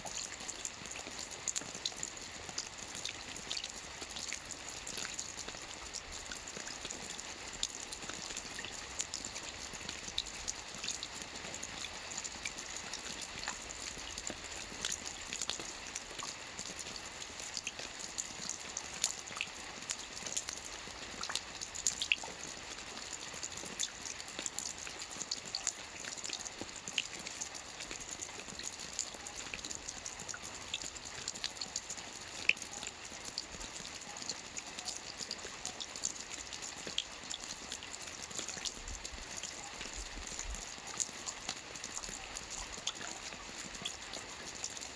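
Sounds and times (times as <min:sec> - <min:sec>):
soft rain on a roof: 0:00.0 - 0:44.9.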